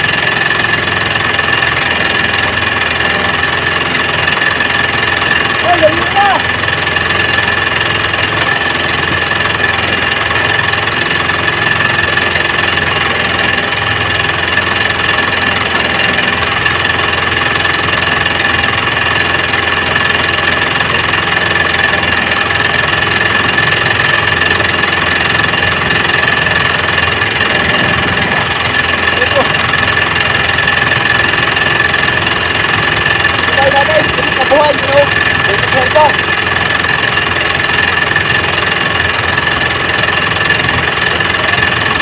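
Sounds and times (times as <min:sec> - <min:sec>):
small engine idling: 0:00.0 - 0:42.0.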